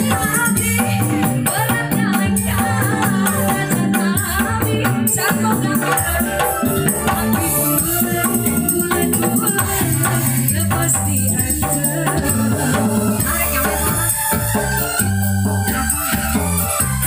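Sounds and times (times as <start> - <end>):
live band music over loudspeakers: 0.0 - 17.0
percussion beat: 0.0 - 17.0
woman singing into microphone: 0.0 - 17.0.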